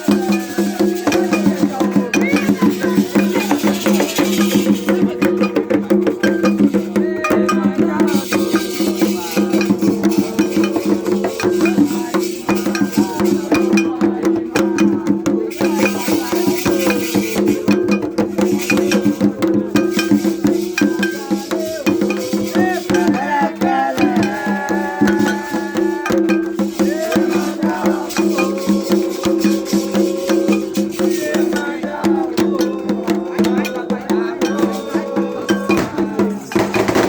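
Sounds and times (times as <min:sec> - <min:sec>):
fast drumming: 0:00.0 - 0:37.0
shakers and rattles: 0:00.0 - 0:37.0
voices: 0:00.0 - 0:37.0.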